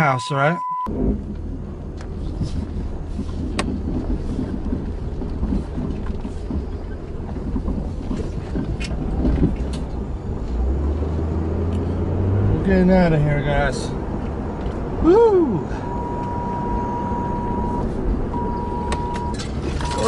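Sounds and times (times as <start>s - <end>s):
engine running low rumble: 0.8s - 20.0s.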